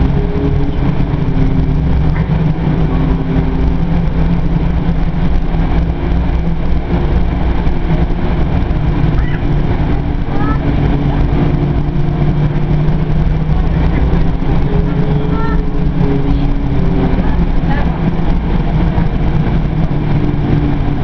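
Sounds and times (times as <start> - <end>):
bus cabin rumble: 0.0 - 21.0
tonal hum: 0.0 - 21.0.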